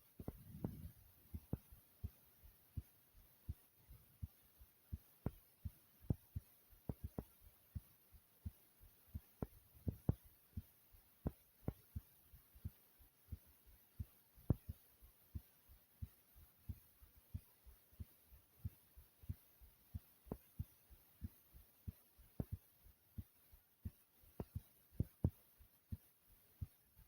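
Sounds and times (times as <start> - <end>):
heartbeat thumping: 0.0 - 27.0.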